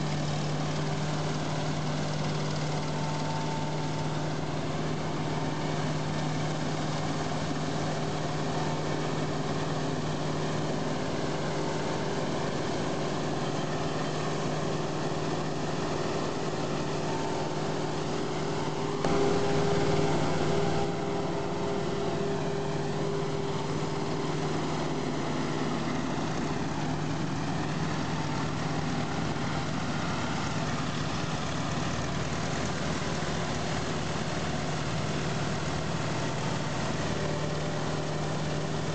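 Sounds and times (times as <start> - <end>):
forage harvester engine drone: 0.0 - 38.9.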